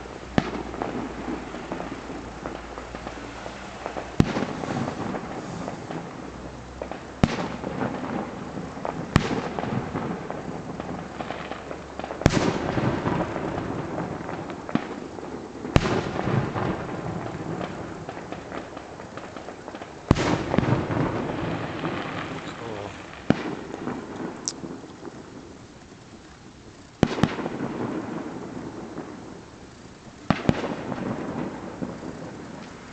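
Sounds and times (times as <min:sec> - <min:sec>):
fireworks crackling: 0:00.0 - 0:32.9.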